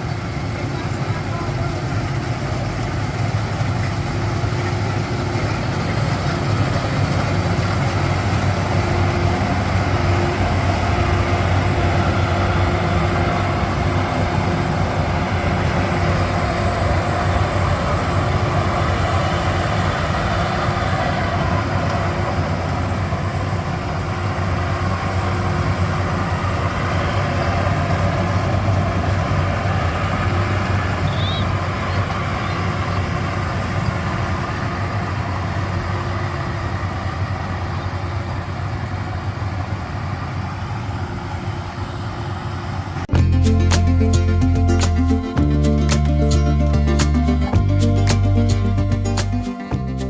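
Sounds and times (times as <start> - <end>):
high-pitched tone: 0.0 - 34.4, 43.1 - 50.0
combine harvester engine hum: 0.0 - 50.0.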